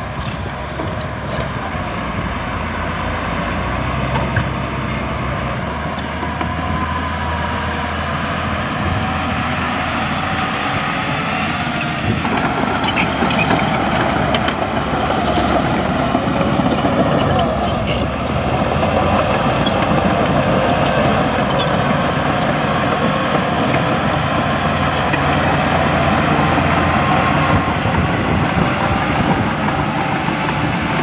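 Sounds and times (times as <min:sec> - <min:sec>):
heavy machinery diesel engine running: 0:00.0 - 0:31.0.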